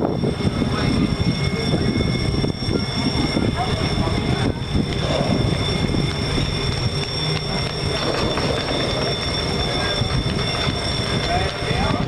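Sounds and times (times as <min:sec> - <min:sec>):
crossing warning signal tones: 0:00.0 - 0:12.0
train rumbling past: 0:00.0 - 0:12.0.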